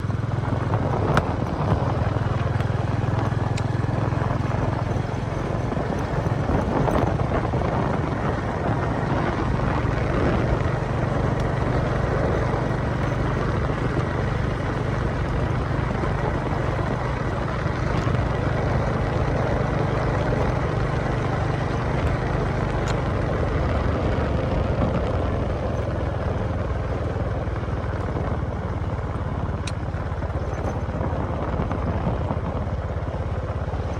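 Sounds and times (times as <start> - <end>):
small engine droning: 0.0 - 33.9.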